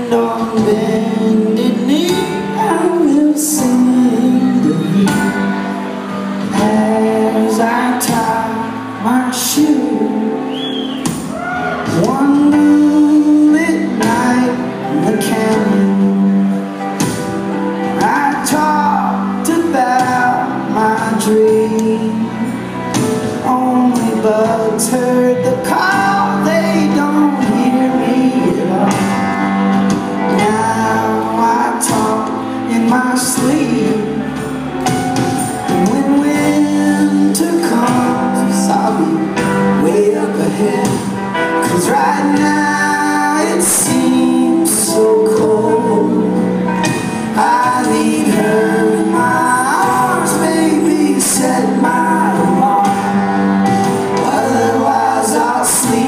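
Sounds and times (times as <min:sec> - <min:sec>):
bass guitar: 0:00.0 - 0:56.0
electric guitars: 0:00.0 - 0:56.0
person singing: 0:00.0 - 0:56.0.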